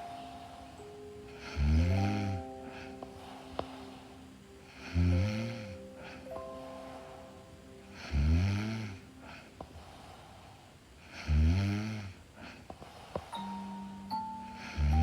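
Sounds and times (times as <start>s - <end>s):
woman snoring: 0.0s - 15.0s.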